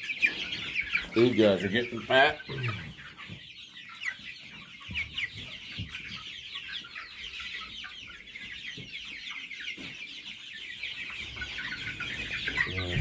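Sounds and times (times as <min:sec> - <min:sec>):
chicks cheeping and clucking: 0:00.0 - 0:13.0.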